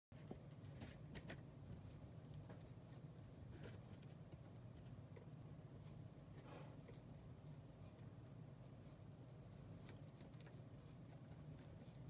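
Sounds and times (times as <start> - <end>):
faint low hum: 0.2 - 12.0.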